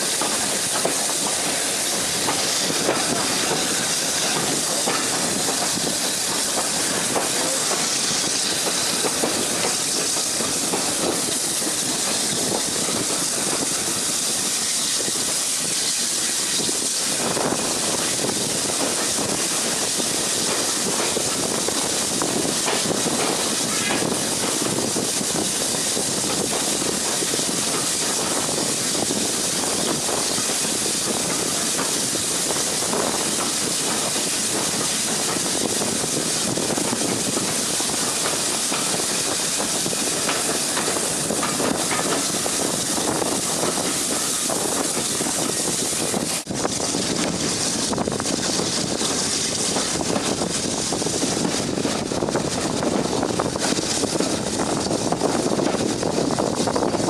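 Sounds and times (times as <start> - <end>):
locomotive steam hissing: 0.0 - 57.0.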